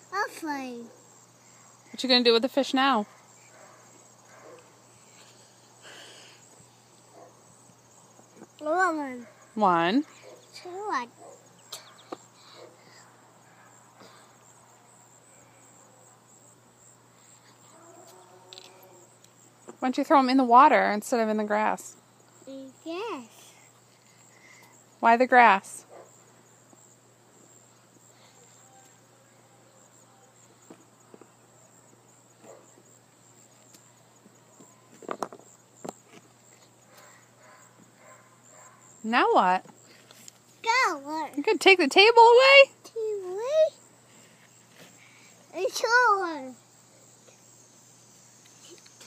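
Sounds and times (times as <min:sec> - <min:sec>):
crickets chirring: 0:00.0 - 0:49.0.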